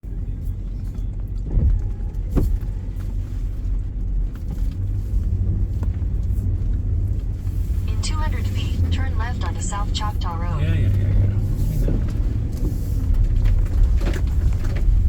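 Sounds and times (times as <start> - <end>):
car driving rumble inside cabin: 0.0 - 15.0.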